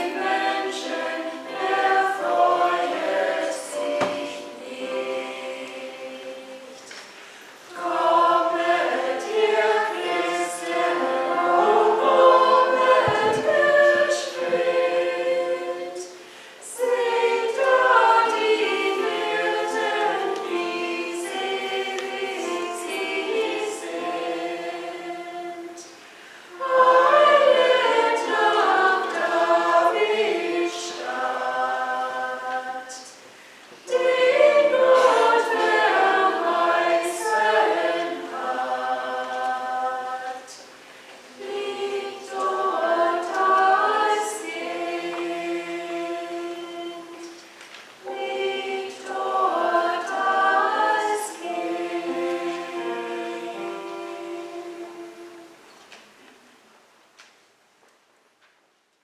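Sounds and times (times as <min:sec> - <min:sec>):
church choir singing: 0:00.0 - 0:55.9.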